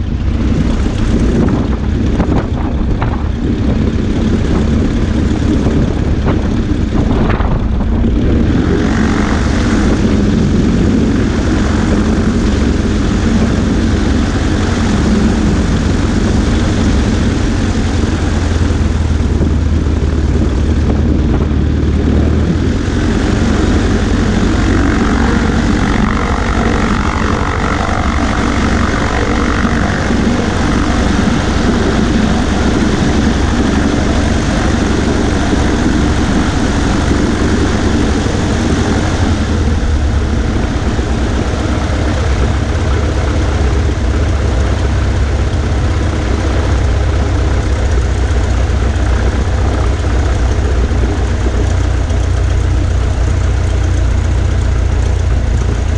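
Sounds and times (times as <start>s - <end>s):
aircraft engine and propeller: 0.0s - 55.9s
wind rush on microphone: 0.0s - 55.9s.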